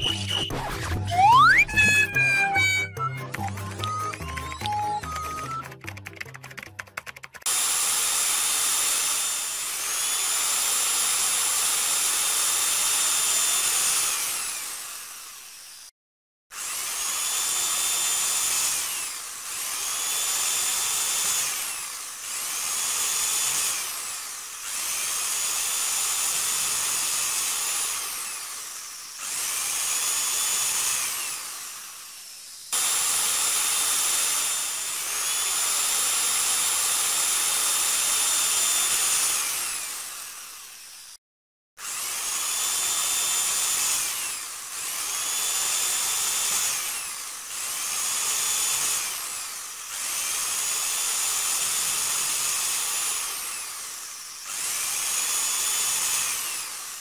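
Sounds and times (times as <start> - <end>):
electric drill whining: 0.0 - 5.8, 7.4 - 41.2, 41.8 - 57.0.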